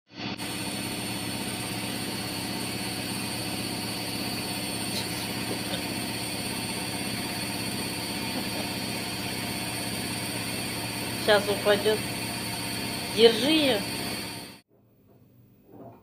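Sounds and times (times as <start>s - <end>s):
washing machine running: 0.1s - 14.6s.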